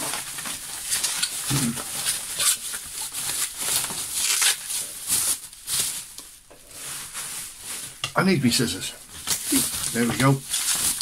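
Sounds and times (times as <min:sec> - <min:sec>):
plastic packing rustling: 0:00.0 - 0:11.0.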